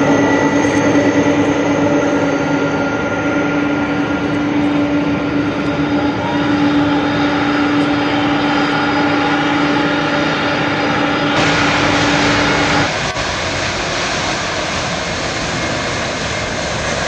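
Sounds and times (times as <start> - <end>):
high engine whine: 0.0 - 17.0
jet engines roaring: 0.0 - 17.0.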